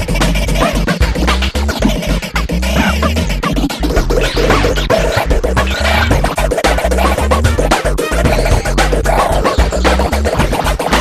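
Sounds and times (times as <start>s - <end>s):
funky electronic music: 0.0s - 11.0s
turntable scratching: 0.0s - 11.0s.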